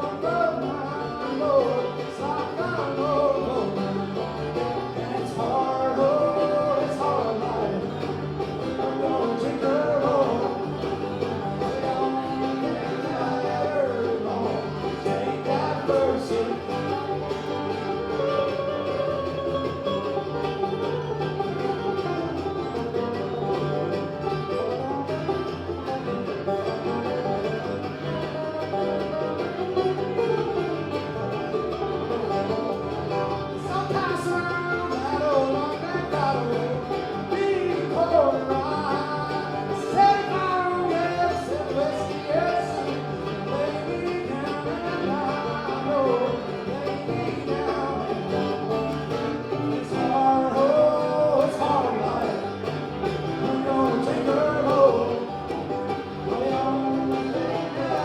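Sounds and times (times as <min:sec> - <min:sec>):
banjo picking: 0:00.0 - 0:58.0
bass line: 0:00.0 - 0:58.0
bluegrass band playing: 0:00.0 - 0:58.0
guitar picking: 0:00.0 - 0:58.0.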